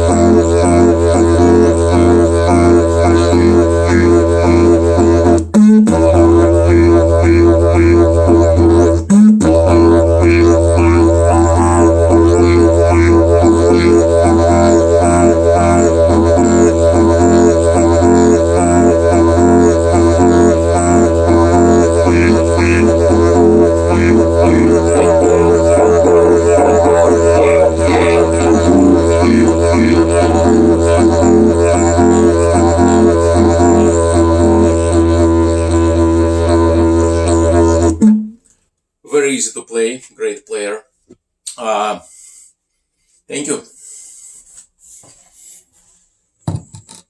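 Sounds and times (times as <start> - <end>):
didgeridoo drone: 0.0 - 38.1.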